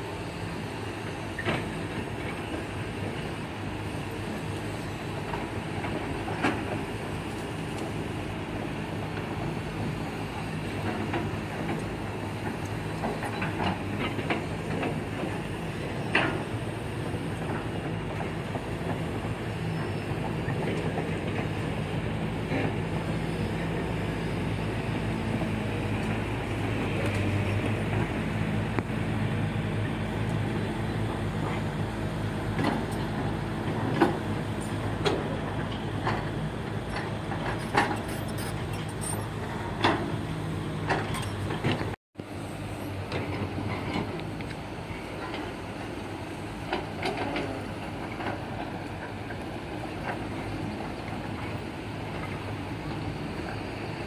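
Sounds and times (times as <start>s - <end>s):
excavator diesel engines running: 0.0s - 54.0s.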